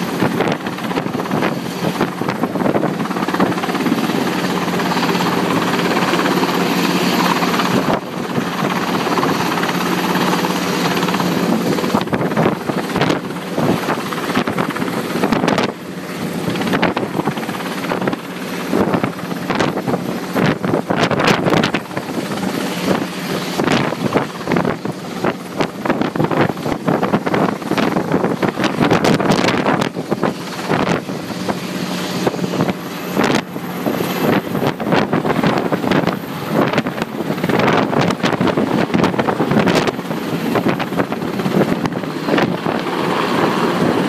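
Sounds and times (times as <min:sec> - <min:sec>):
helicopter engine and rotor: 0:00.0 - 0:44.0
wind buffeting microphone: 0:00.0 - 0:44.0.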